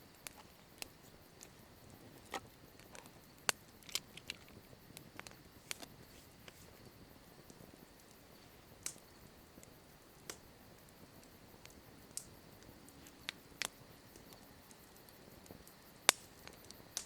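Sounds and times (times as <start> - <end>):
campfire crackling: 0.0 - 17.0
faint fire hiss: 0.0 - 17.0
sharp fire pops: 0.1 - 17.0.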